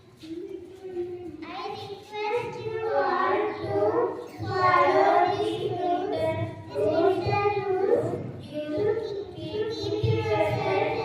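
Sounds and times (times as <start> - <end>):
children singing together: 2.0 - 11.0.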